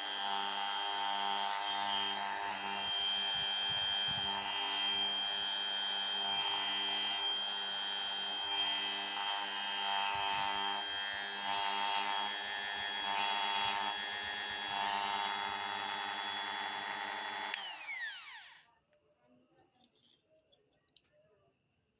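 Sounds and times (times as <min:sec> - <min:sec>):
rotary tool whining: 0:00.0 - 0:18.7.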